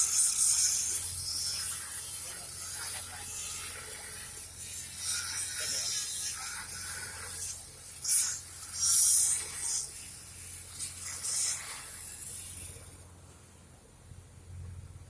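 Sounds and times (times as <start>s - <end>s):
welding arc crackling and hissing: 0.0s - 13.1s
steady low hum: 0.0s - 15.0s.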